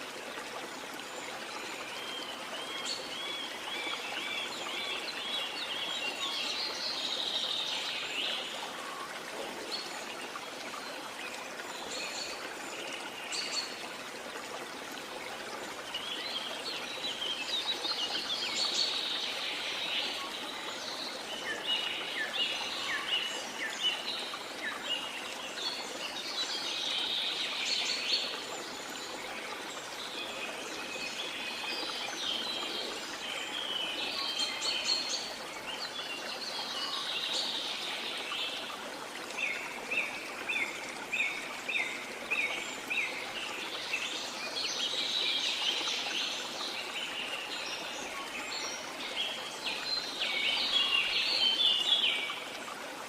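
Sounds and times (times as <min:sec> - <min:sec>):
running water hiss: 0:00.0 - 0:53.0.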